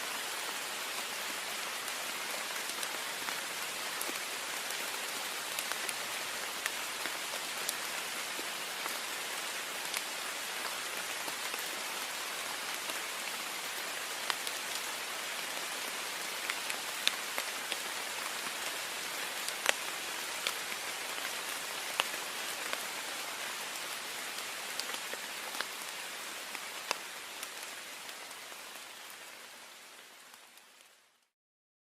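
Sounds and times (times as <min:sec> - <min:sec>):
heavy rain on a window: 0:00.1 - 0:31.3.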